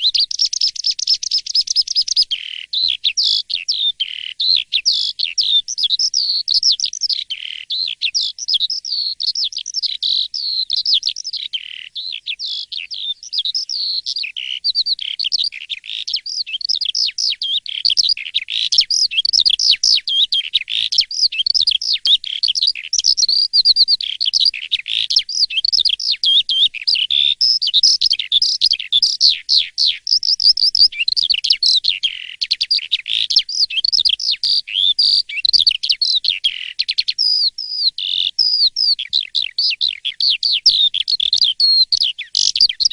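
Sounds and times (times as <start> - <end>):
starling singing: 0.0 - 42.9.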